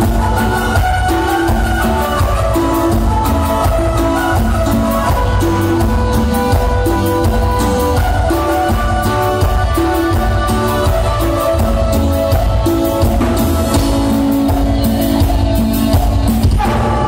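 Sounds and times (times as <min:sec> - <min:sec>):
live band playing: 0:00.0 - 0:17.0
steady drum beat: 0:00.0 - 0:17.0.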